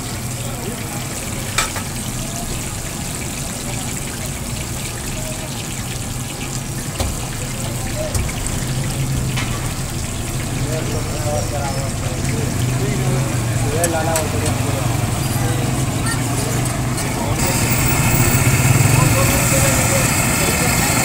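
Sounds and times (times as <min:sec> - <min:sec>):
meat sizzling on a pan: 0:00.0 - 0:21.0.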